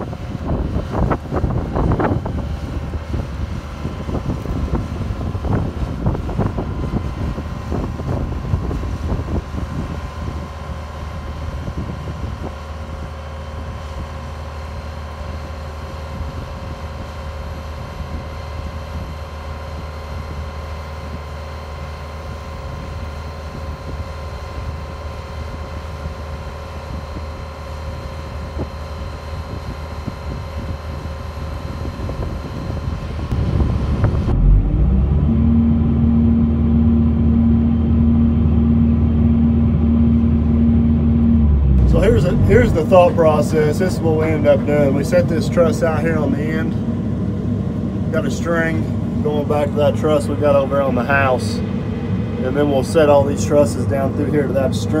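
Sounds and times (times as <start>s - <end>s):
excavator diesel engine running: 0.0s - 55.0s
faint steady whine: 0.0s - 55.0s
wind noise on microphone: 0.0s - 55.0s.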